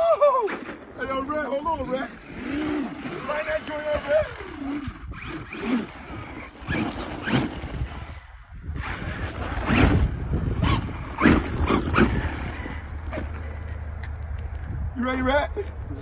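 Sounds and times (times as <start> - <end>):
tyres skidding on gravel: 0.0 - 15.9
electric rc car revving: 0.5 - 13.6.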